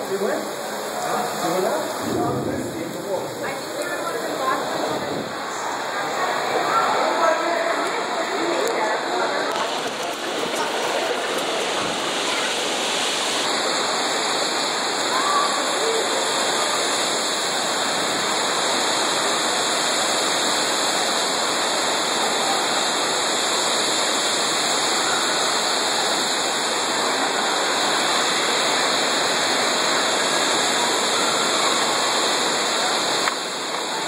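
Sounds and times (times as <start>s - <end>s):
heavy rain pounding on skylight: 0.0s - 34.0s.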